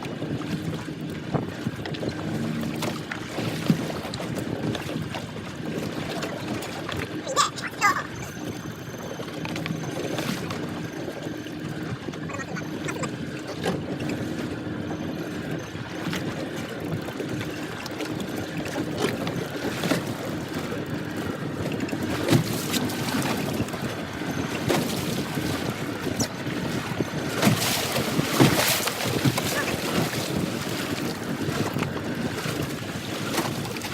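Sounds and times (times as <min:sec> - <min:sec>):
wind buffeting microphone: 0:00.0 - 0:07.3, 0:10.2 - 0:33.9
boat engine low hum: 0:00.0 - 0:33.9
water splashing against hull: 0:00.0 - 0:33.9.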